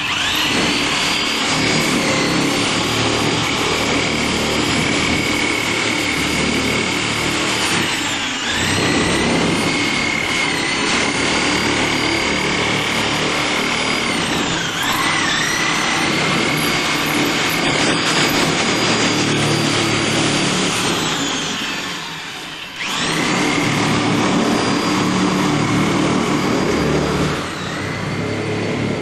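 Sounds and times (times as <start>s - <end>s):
power tool cutting sheet metal: 0.0s - 29.0s.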